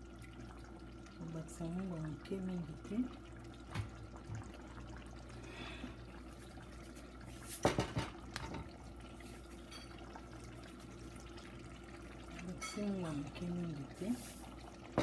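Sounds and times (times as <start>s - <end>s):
liquid sloshing in a pot: 0.0s - 15.0s.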